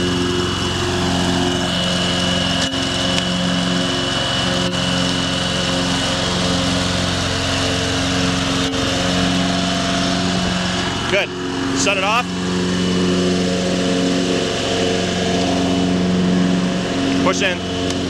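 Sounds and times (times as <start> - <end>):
lawn tractor mowing: 0.0 - 18.0.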